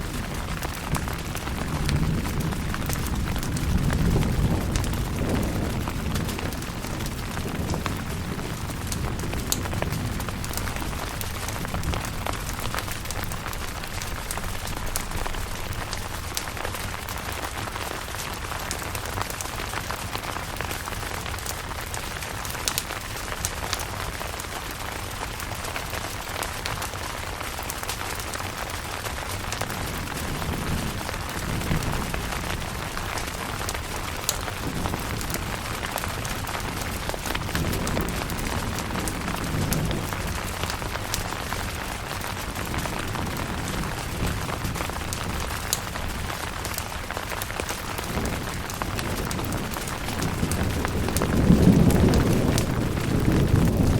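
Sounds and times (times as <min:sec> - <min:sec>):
rain on a tent: 0:00.0 - 0:53.9.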